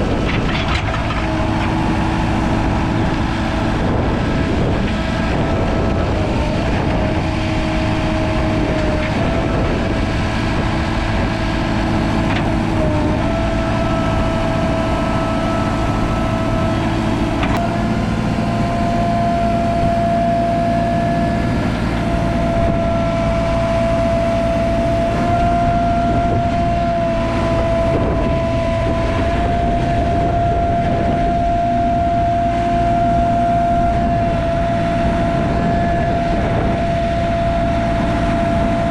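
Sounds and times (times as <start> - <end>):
diesel engine running: 0.0 - 38.9
high steady whine: 0.0 - 38.9.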